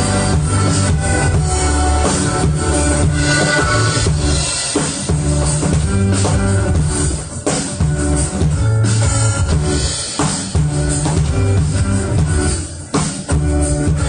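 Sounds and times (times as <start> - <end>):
drum beat: 0.0 - 14.0
sustained pitched notes: 0.0 - 14.0.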